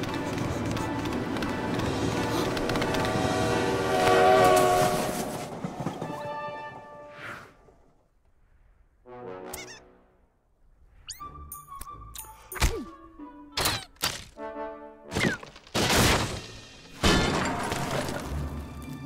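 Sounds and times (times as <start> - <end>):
orchestral film score: 0.0 - 7.8, 9.0 - 10.4, 11.2 - 19.0.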